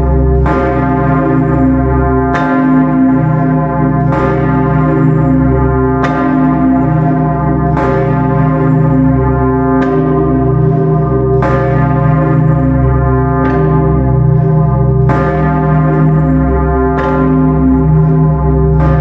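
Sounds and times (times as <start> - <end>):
church bells ringing: 0.0 - 19.0
deep bell hum: 0.0 - 19.0.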